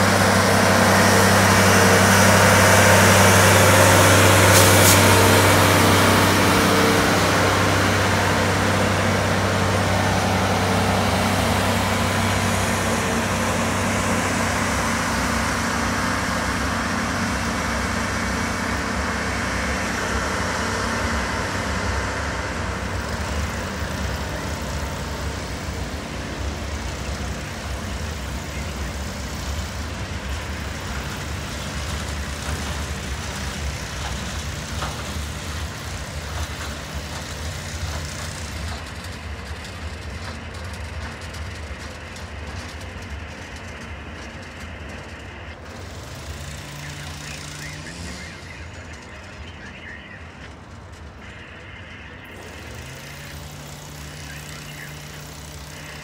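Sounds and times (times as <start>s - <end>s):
diesel engine hum: 0.0s - 56.0s
train rumbling past: 0.0s - 56.0s.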